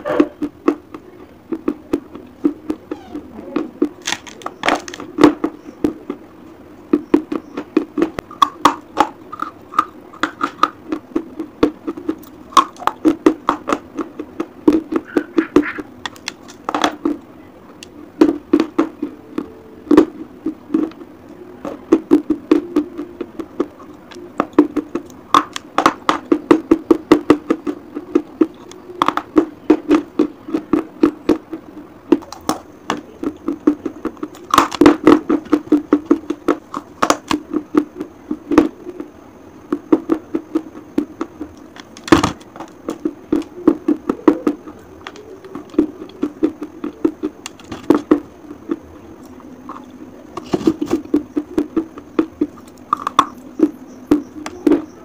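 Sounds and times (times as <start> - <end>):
person chewing chalk: 0.0 - 55.0.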